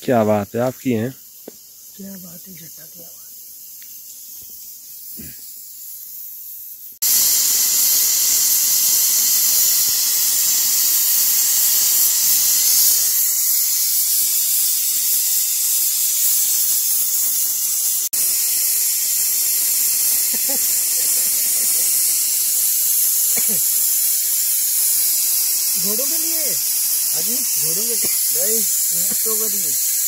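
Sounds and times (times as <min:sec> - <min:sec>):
pressure cooker steam hissing: 0:01.0 - 0:30.0.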